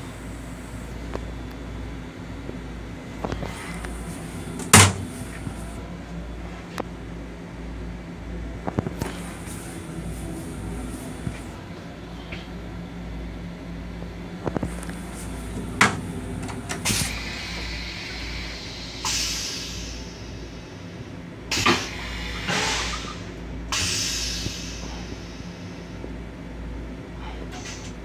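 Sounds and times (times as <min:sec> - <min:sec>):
railcar hum: 0:00.0 - 0:28.0.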